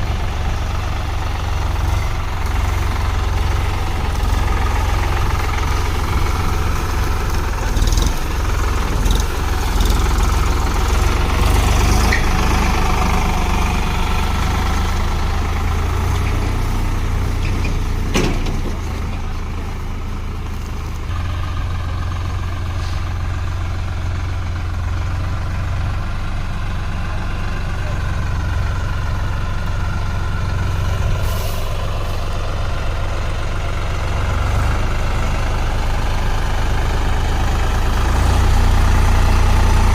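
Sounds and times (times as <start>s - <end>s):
tractor diesel engine humming: 0.0s - 39.9s.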